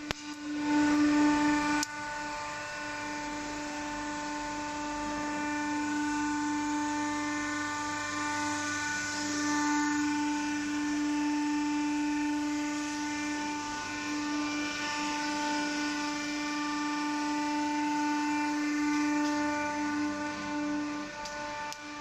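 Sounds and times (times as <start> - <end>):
machine motor humming and whining: 0.0 - 22.0.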